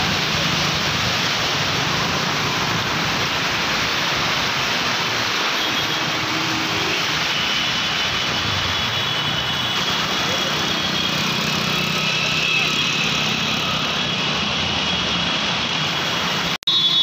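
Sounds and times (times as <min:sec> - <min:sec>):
heavy rain on flooded street: 0:00.0 - 0:17.0.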